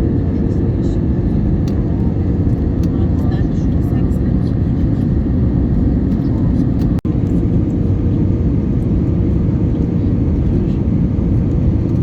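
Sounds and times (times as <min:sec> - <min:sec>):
airliner cabin engine roar: 0:00.0 - 0:12.0.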